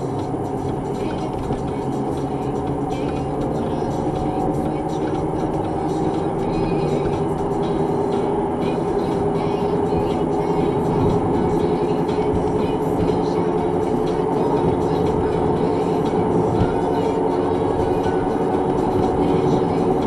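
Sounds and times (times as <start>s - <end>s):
car engine and tyre drone: 0.0s - 20.0s
music playing: 0.0s - 20.0s.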